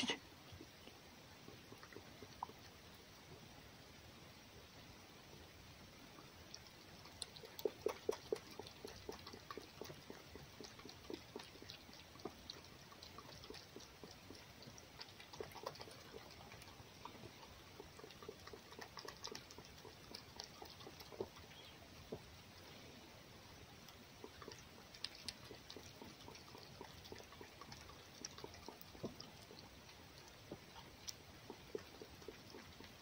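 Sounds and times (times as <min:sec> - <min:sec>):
fox chewing and smacking: 0:00.0 - 0:03.6, 0:04.5 - 0:33.0.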